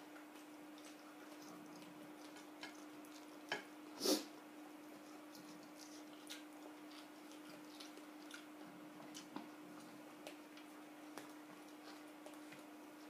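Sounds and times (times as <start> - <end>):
soft clicks of eating: 0.0 - 3.7, 4.3 - 13.0
faint steady hum: 0.0 - 13.0.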